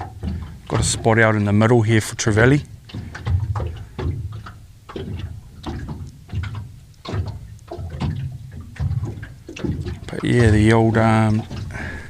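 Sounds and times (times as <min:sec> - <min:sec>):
waves slapping boat hull: 0:00.0 - 0:12.0.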